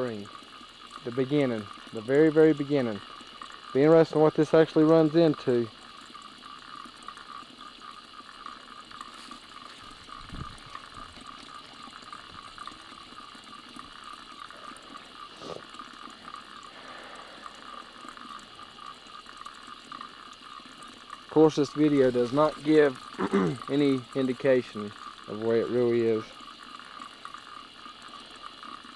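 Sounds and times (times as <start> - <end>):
spring water trickling: 0.0 - 28.9.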